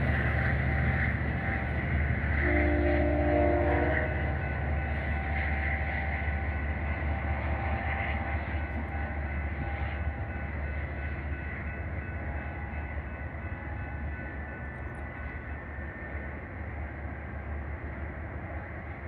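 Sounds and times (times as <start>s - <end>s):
train rumbling with faint whine: 0.0s - 19.0s.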